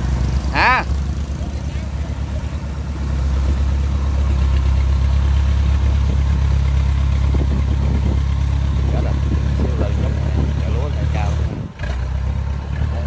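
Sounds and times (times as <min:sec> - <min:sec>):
engine running with deep hum: 0:00.0 - 0:13.0.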